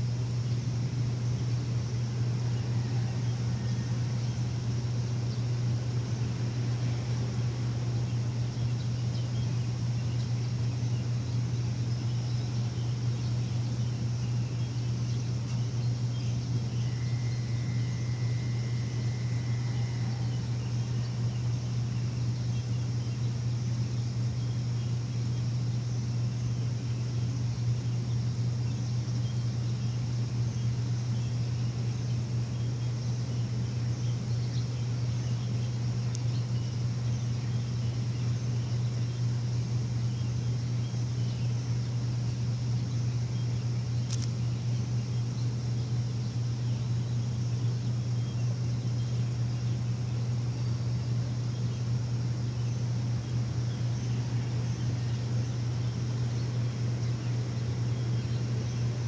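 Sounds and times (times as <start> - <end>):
faint bird chirps: 0.0 - 59.0
machine humming: 0.0 - 59.0.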